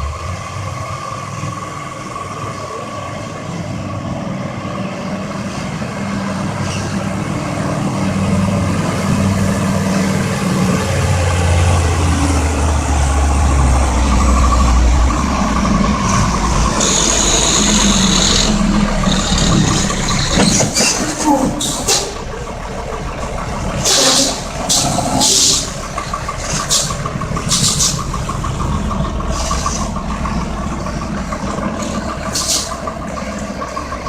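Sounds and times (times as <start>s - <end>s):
heavy vehicle engine under load: 0.0s - 34.0s.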